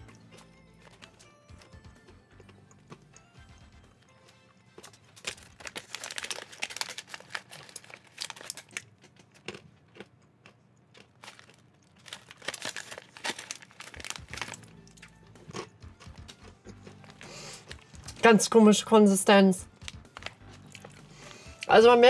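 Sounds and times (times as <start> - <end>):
crunchy peas being chewed: 0.0 - 18.2, 19.6 - 21.7.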